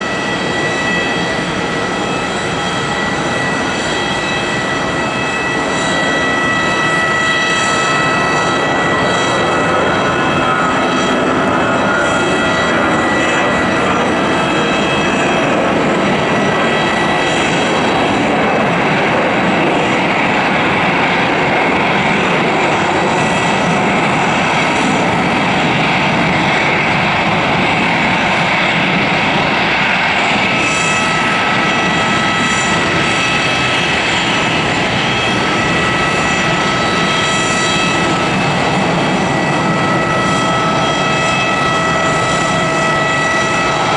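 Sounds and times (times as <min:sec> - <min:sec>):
jet engine whine: 0:00.0 - 0:43.9.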